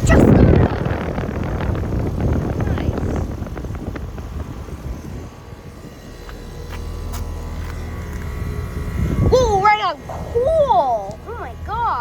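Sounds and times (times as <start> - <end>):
air conditioner unit humming: 0.0 - 12.0
wind rumbling on microphone: 0.0 - 12.0.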